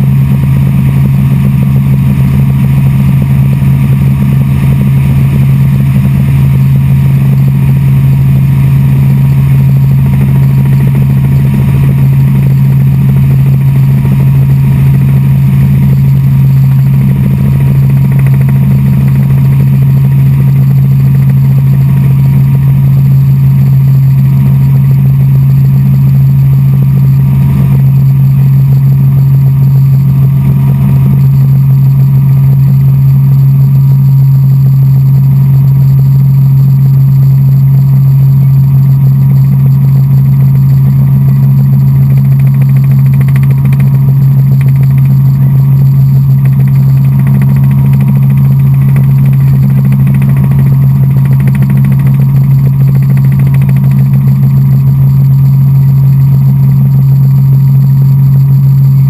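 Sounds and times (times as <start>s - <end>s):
helicopter engine and rotors drone: 0.0s - 59.0s.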